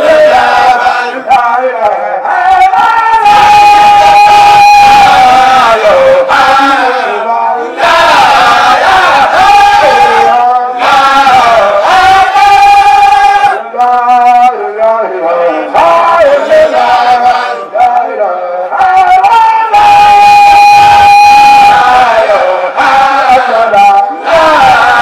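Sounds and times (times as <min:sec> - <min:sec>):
men singing a religious chant: 0:00.0 - 0:25.0.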